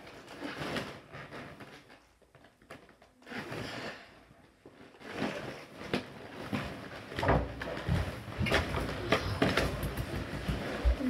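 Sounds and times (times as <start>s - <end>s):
rubber balloons rubbing and bumping: 0.0s - 11.0s.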